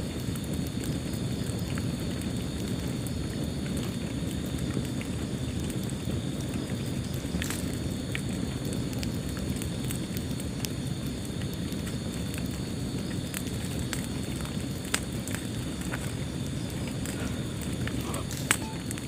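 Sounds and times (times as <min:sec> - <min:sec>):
flames rumbling: 0:00.0 - 0:19.0
wood fire pops and snaps: 0:00.0 - 0:19.0.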